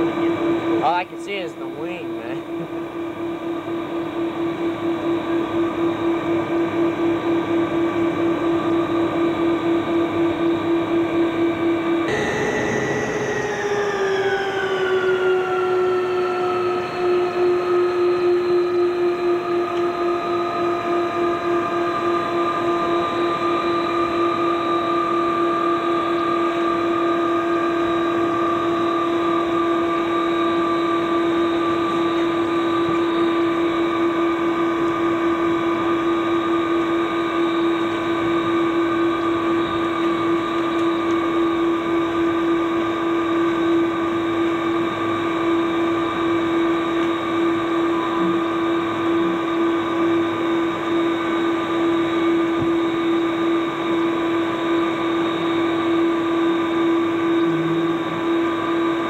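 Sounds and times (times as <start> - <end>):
jet engine drone with whine: 0.0 - 59.0.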